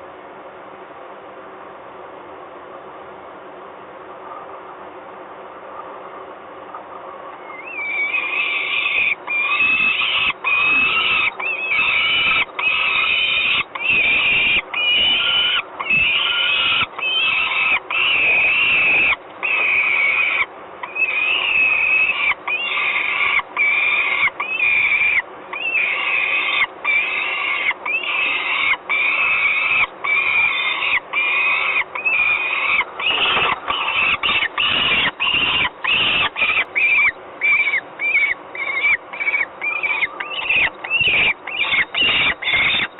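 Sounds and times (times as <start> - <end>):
falcon harsh wailing calls: 7.4 - 42.9.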